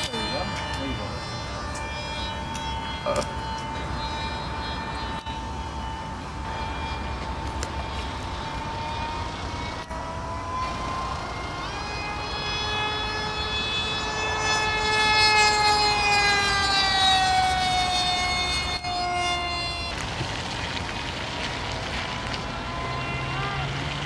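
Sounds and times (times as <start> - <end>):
model plane motor whining: 0.0 - 21.0.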